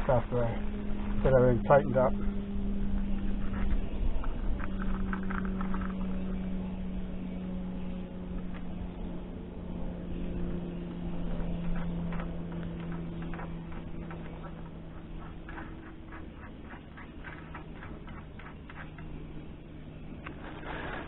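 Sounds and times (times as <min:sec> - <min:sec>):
engine drone: 0:00.0 - 0:21.0
low rumble: 0:00.0 - 0:21.0.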